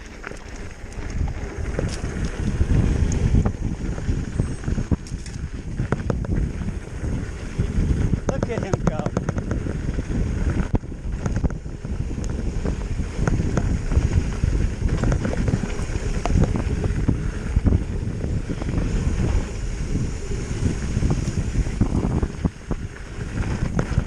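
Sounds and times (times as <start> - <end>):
bike clicks and rattles: 0.0 - 24.0
tyres on dirt trail: 0.0 - 24.0
wind buffeting microphone: 0.0 - 24.0.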